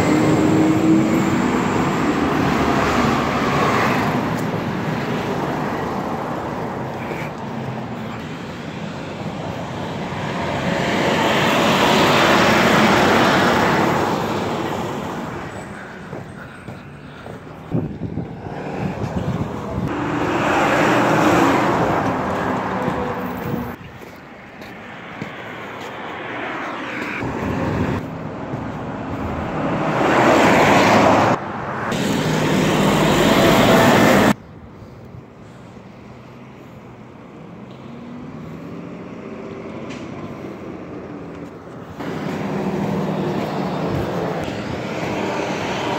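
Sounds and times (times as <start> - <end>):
vehicles passing close by: 0.0 - 45.9.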